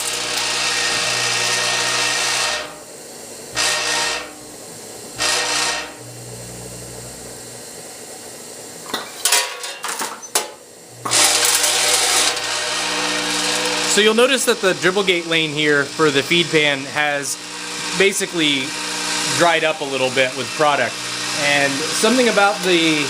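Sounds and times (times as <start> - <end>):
vibratory feed pans buzzing: 0.0 - 23.0.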